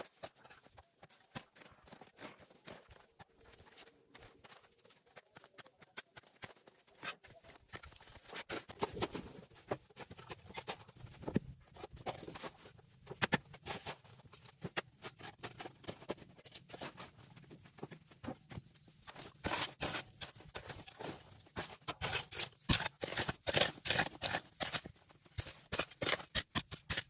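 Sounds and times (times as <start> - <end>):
clicks scrapes and rustles: 0.0 - 27.0.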